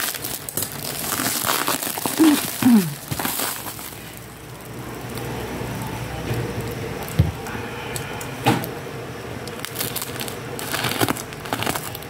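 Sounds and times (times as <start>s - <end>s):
bubble wrap crinkling: 0.0s - 7.5s, 9.4s - 12.0s.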